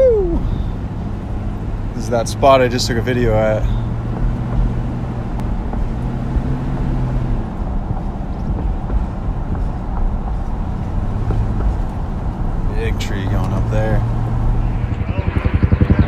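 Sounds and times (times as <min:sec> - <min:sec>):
road noise: 0:00.0 - 0:16.0
vehicle engine hum: 0:00.0 - 0:16.0.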